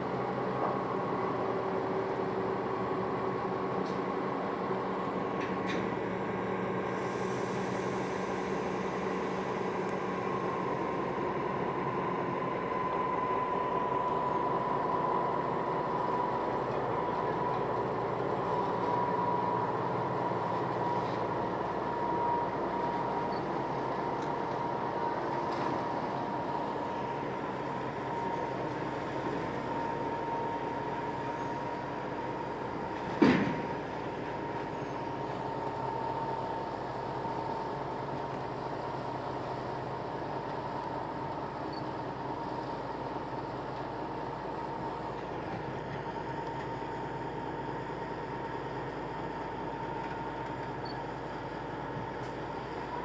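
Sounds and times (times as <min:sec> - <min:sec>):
diesel locomotive idling: 0:00.0 - 0:53.0.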